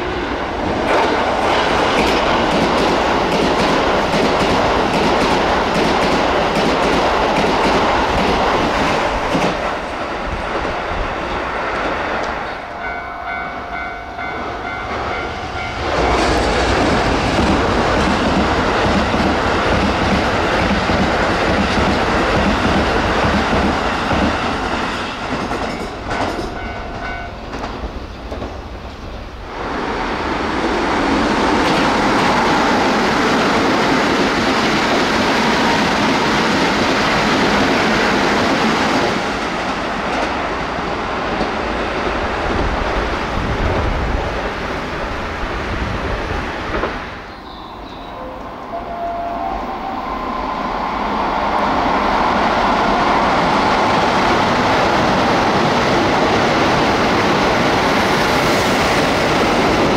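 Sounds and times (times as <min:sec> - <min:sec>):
electric trains passing at speed: 0:00.0 - 0:59.9.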